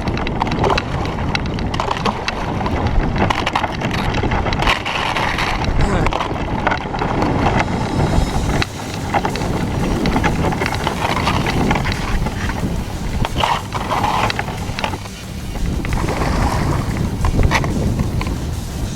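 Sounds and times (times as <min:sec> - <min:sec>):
water noise: 0:00.0 - 0:18.9
wind rumbling on microphone: 0:00.0 - 0:18.9.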